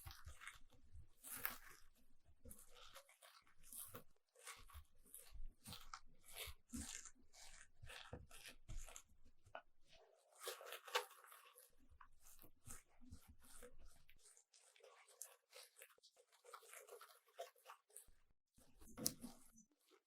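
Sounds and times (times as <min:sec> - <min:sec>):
material crinkling and crunching: 0:00.0 - 0:20.0.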